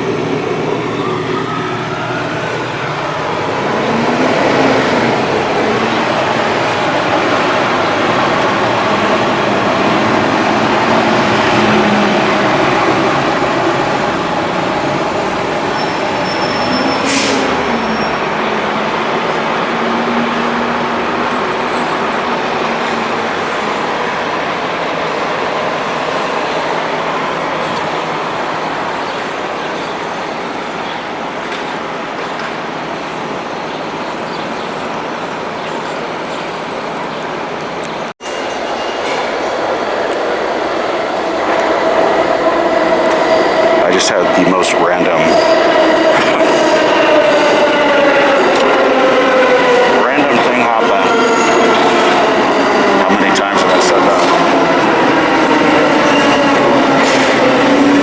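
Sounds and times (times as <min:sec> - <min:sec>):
subway train rumbling: 0:00.0 - 0:58.0.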